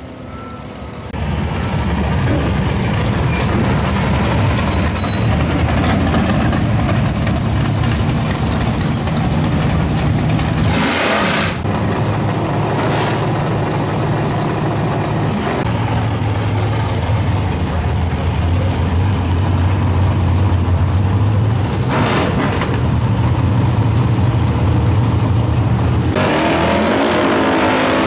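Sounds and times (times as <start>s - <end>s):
car engines idling: 0.0s - 26.2s.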